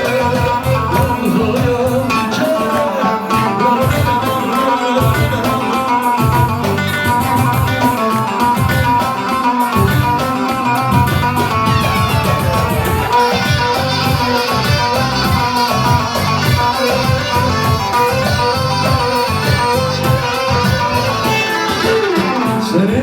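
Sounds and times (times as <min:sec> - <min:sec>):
pulsing bass line: 0:00.0 - 0:02.4, 0:03.8 - 0:09.1, 0:09.7 - 0:22.0
plucked-string melody: 0:00.0 - 0:23.0.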